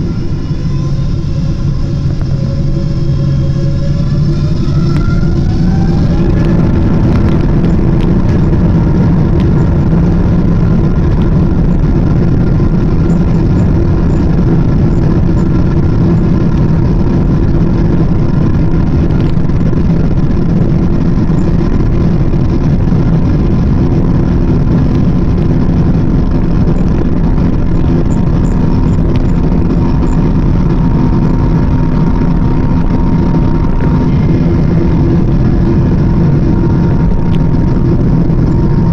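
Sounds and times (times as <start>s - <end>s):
jet engines at takeoff thrust: 0.0s - 38.9s.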